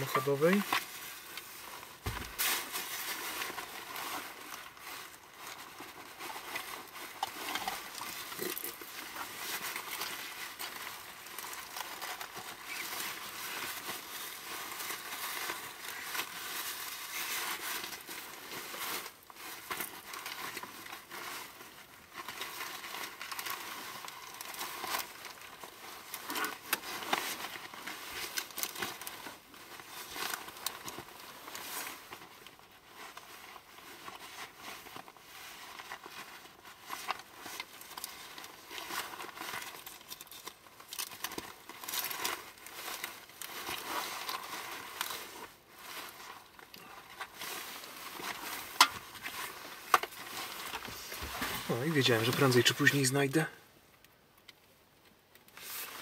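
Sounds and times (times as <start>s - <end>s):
hands rummaging with rustling: 0.0s - 53.6s, 55.4s - 56.0s.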